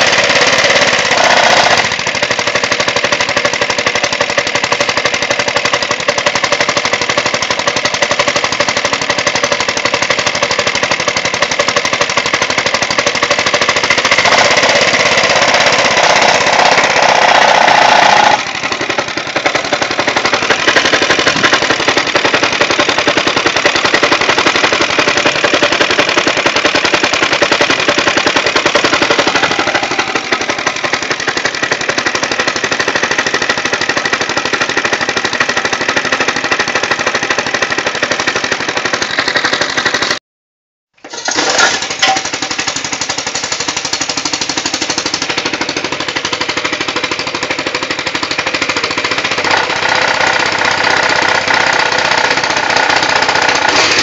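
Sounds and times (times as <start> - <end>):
lawn mower engine popping: 0.0 - 40.2, 41.0 - 54.0.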